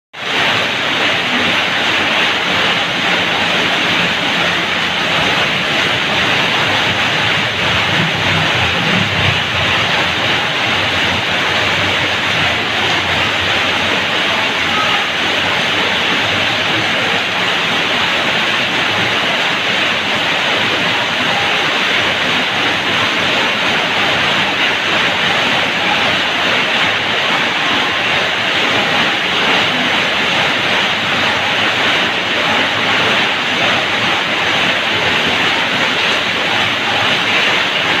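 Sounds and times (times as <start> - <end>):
rain on a tiled roof: 0.1 - 38.0.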